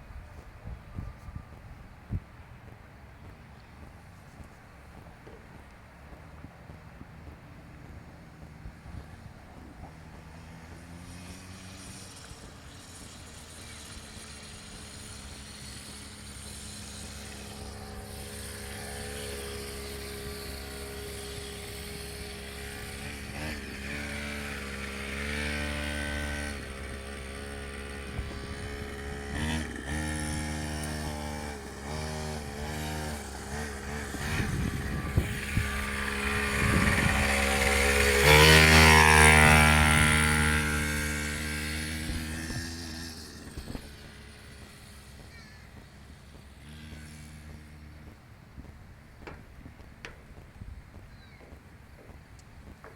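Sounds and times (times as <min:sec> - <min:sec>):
small dirt bike engine running: 0:00.0 - 0:52.9.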